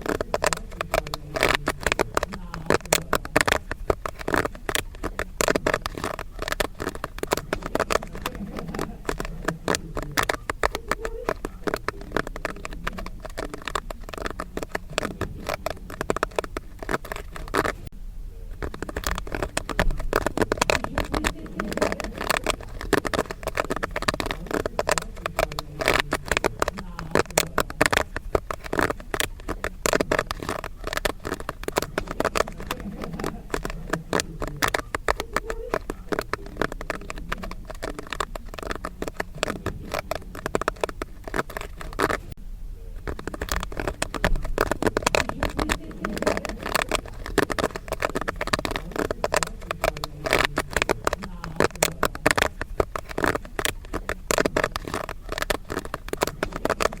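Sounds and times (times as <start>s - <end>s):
popcorn popping: 0.0s - 57.0s.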